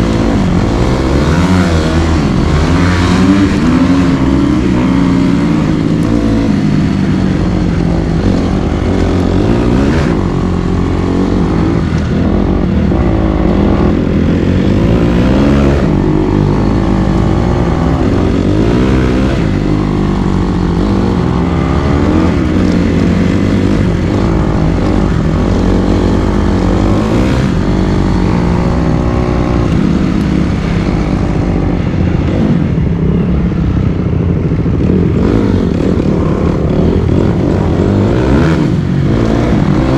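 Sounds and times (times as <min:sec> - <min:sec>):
dirt bike engine revving: 0:00.0 - 0:33.2, 0:34.2 - 0:39.9.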